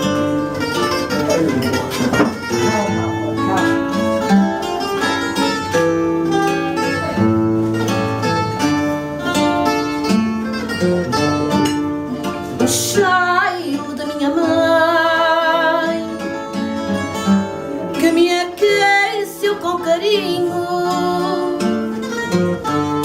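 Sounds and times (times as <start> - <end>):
guitar bass and chords: 0.0 - 18.8, 20.0 - 23.0
plucked guitar melody: 0.0 - 23.0.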